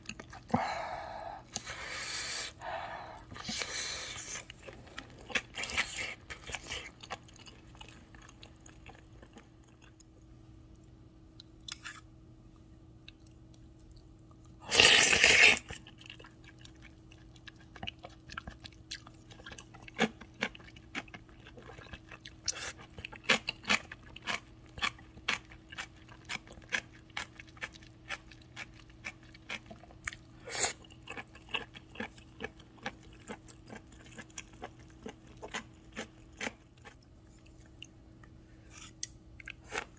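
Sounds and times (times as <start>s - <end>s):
crunching and chewing: 0.0s - 0.5s, 3.1s - 12.1s, 13.0s - 39.9s
faint steady hum: 0.0s - 39.9s.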